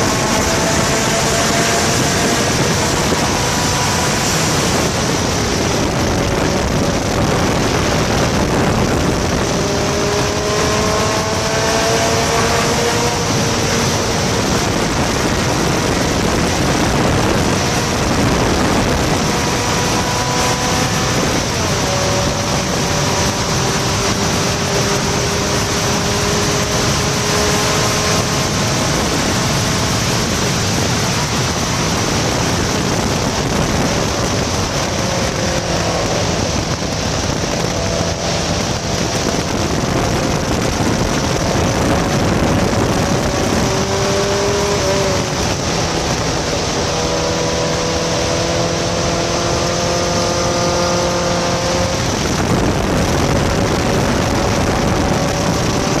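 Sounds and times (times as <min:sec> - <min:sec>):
sports car engine running hard: 0:00.0 - 0:56.0
wind rush: 0:00.0 - 0:56.0.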